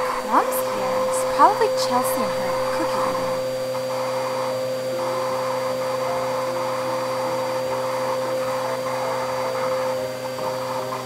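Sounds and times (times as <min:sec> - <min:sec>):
toy vacuum cleaner humming: 0:00.0 - 0:11.0.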